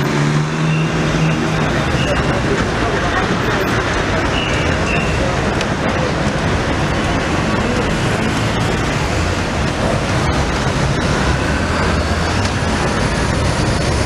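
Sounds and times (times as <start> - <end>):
police motorcycles passing: 0.0 - 14.0
road noise rush: 0.0 - 14.0.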